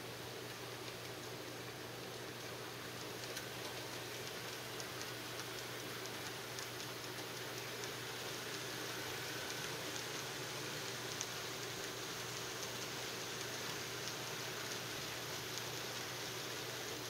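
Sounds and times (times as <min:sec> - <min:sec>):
model train hiss and hum: 0:00.0 - 0:17.0
wheels ticking over track: 0:03.0 - 0:17.0.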